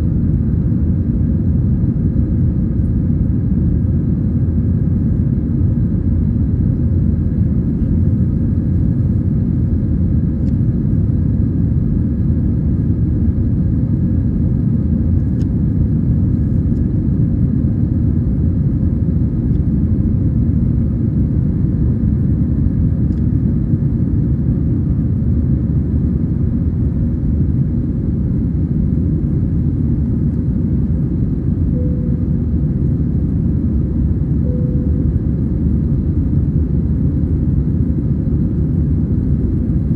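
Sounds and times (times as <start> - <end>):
aircraft engine rumble in cabin: 0.0 - 39.9
faint steady hum: 0.0 - 39.9.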